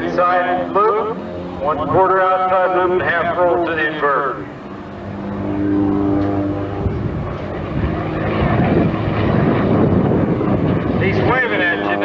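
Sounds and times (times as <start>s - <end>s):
propeller airplane engine in flight: 0.0s - 12.0s.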